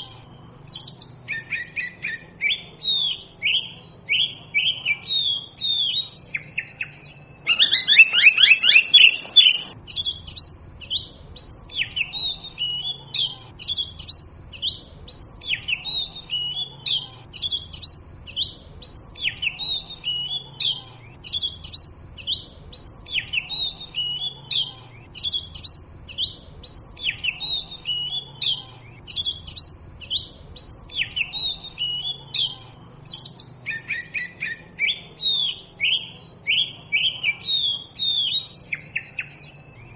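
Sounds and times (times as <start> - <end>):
songbird singing high notes: 0.0 - 39.9.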